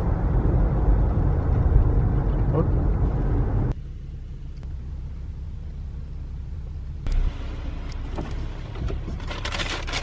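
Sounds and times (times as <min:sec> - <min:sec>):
car road rumble inside cabin: 0:00.0 - 0:10.0.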